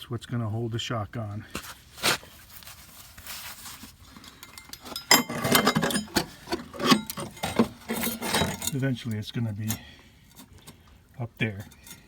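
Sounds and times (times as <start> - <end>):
rustling and clattering handling: 1.5 - 12.0.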